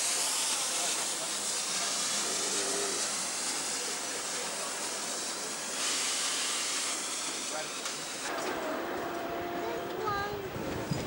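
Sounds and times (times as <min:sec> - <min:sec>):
steam hissing: 0:00.0 - 0:11.0
steam locomotive passing: 0:00.0 - 0:11.0.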